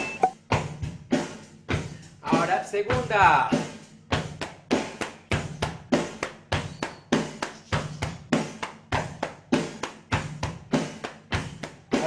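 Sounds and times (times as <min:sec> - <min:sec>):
rock drum beat: 0:00.0 - 0:12.0.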